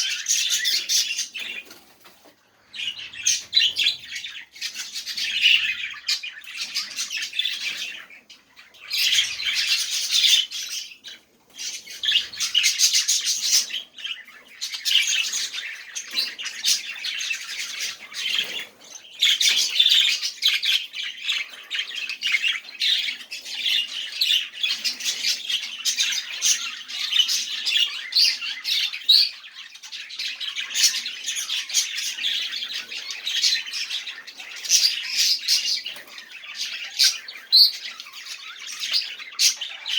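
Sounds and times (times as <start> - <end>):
budgerigars warbling and chattering: 0.0 - 39.9.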